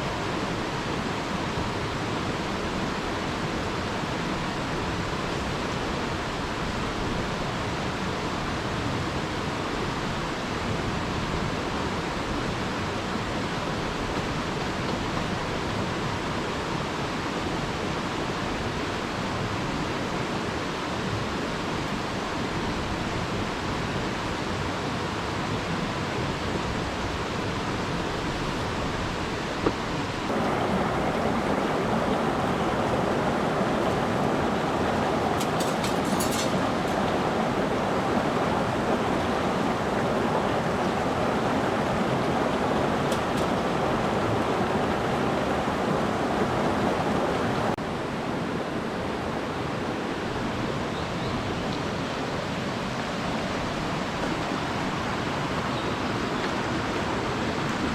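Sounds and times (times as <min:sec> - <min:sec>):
mountain stream rushing: 0:00.0 - 0:57.9.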